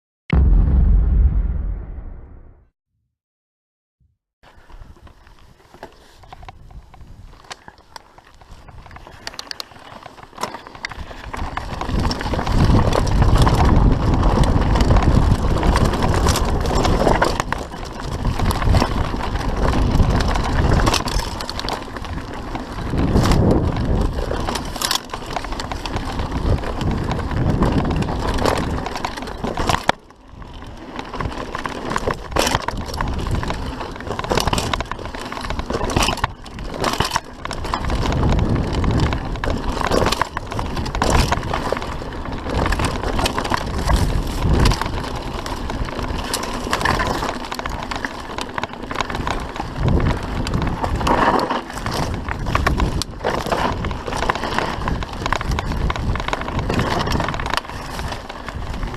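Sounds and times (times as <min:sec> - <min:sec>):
wind rumbling on microphone: 0:00.3 - 0:02.6, 0:10.9 - 0:58.9
tyres crunching over loose ground: 0:04.6 - 0:58.9
bike rattling and knocking: 0:05.4 - 0:58.9.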